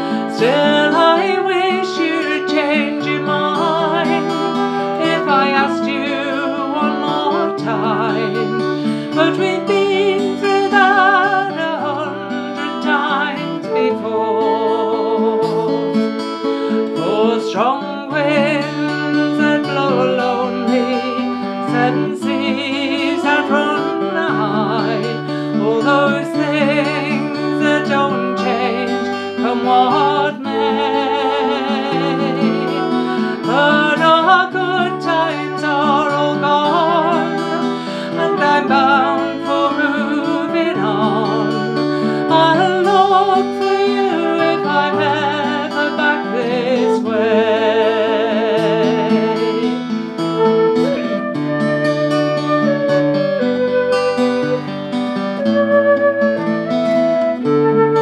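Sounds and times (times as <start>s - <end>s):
flute melody: 0.0s - 58.0s
strummed acoustic guitar: 0.0s - 58.0s
woman singing: 0.0s - 58.0s.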